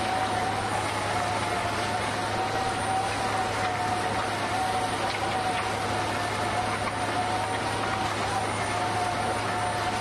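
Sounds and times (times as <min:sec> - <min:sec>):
drilling rig droning: 0:00.0 - 0:10.0.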